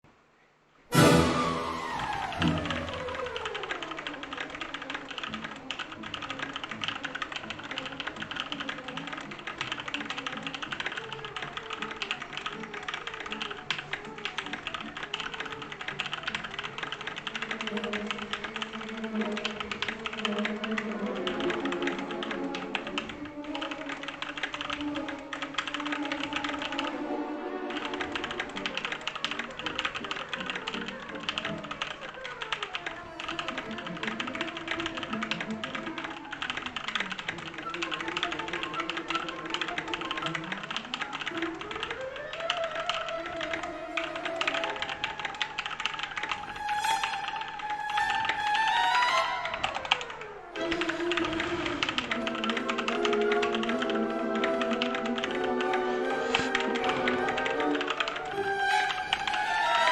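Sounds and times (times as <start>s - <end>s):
background music: 0.9s - 59.9s
fast keyboard typing: 2.0s - 59.9s.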